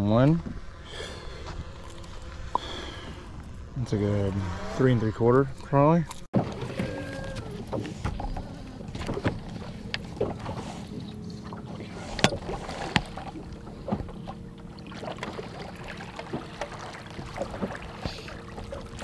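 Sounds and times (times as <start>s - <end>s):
boat engine hum: 0.0s - 19.0s.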